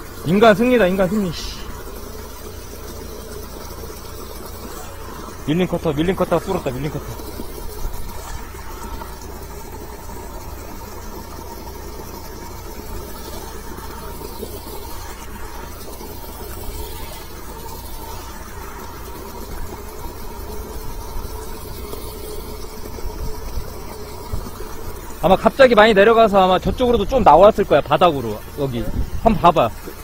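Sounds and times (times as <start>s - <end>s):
engine and pump humming: 0.0s - 30.0s.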